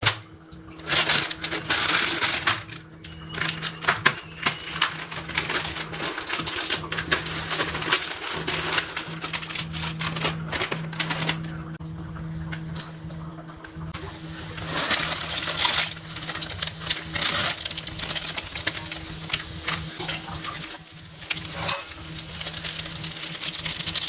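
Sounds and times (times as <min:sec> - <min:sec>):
steady hum: 0:00.0 - 0:24.0
food crackling in a pan: 0:00.6 - 0:11.8, 0:13.9 - 0:24.0.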